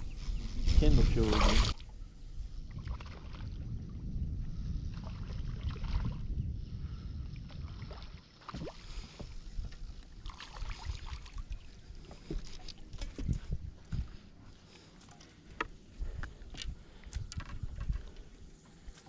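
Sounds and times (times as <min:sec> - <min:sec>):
wind rumbling on microphone: 0:00.0 - 0:14.8, 0:15.4 - 0:19.0.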